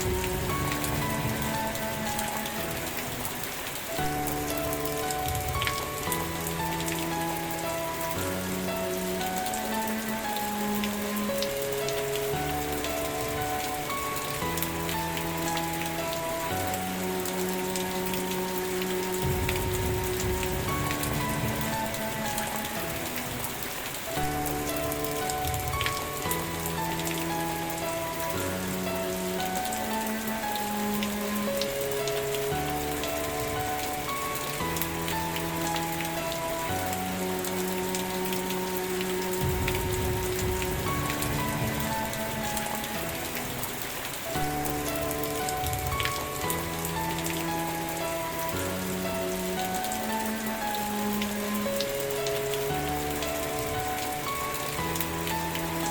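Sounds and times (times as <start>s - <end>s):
sharp drip ticks: 0.0s - 55.9s
soft background music chords: 0.0s - 55.9s
steady rain falling: 0.0s - 55.9s.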